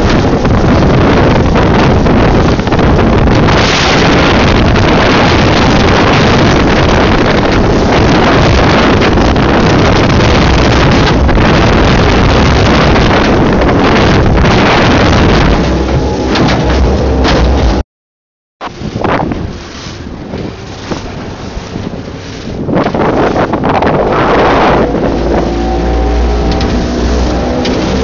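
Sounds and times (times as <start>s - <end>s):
boat through choppy water: 0.0s - 17.8s, 18.6s - 28.0s
outboard motor at speed: 0.0s - 17.8s, 18.6s - 28.0s
wind buffeting microphone: 0.0s - 17.8s, 18.6s - 28.0s.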